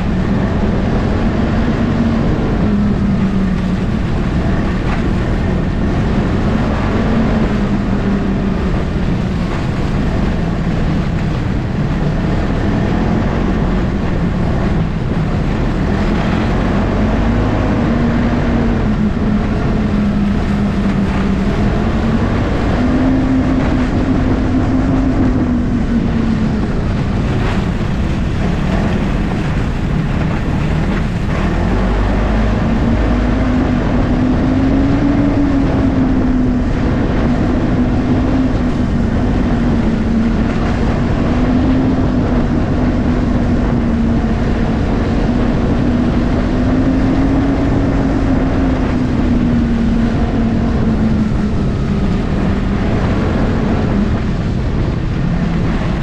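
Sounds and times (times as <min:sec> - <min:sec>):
snowmobile engine droning: 0:00.0 - 0:56.0
steady rush of noise: 0:00.0 - 0:56.0.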